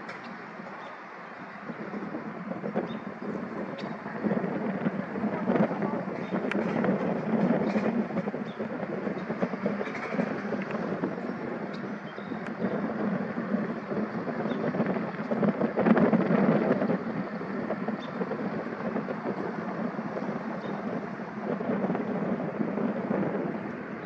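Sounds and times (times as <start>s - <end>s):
propeller airplane drone: 0.0s - 24.0s.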